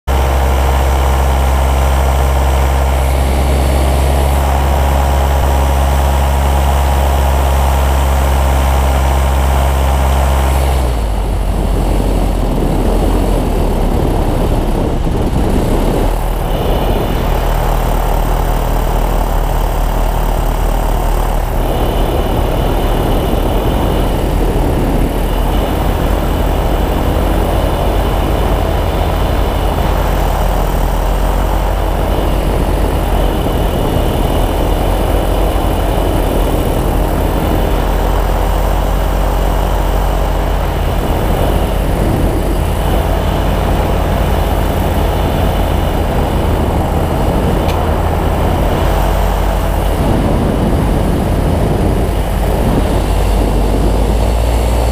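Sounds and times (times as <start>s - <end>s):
wind rumbling over microphone: 0.1s - 54.9s.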